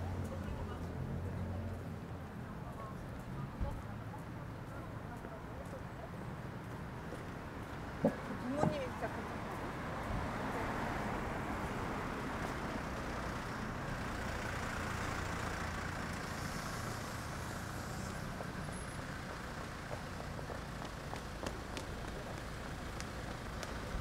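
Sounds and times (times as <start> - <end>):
city street traffic: 0.0 - 24.0.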